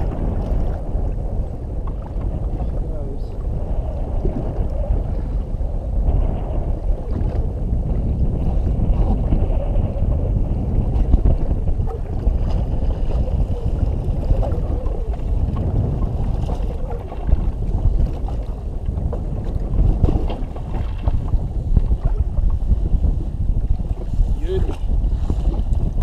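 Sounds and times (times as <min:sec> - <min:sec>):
water lapping against hull: 0:00.0 - 0:26.0
wind buffeting microphone: 0:00.0 - 0:26.0.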